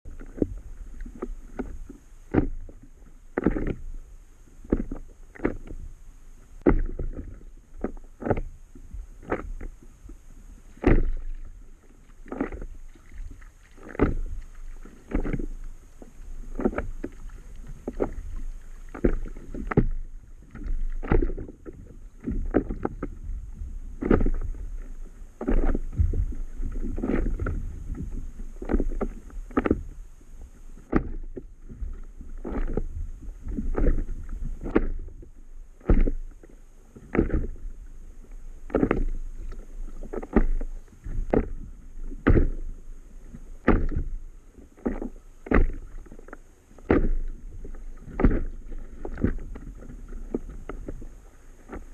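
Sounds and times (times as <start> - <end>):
small waves slapping hull: 0.0 - 51.9
steady low rumble: 0.0 - 51.9.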